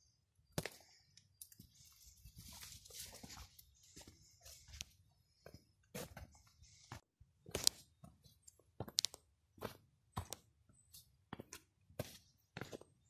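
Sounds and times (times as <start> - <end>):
footsteps on dirt trail: 1.6 - 13.0.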